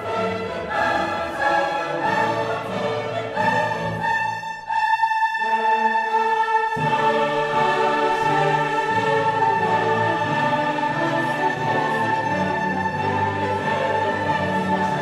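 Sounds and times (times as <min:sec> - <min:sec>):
orchestral music with choir: 0:00.0 - 0:15.0.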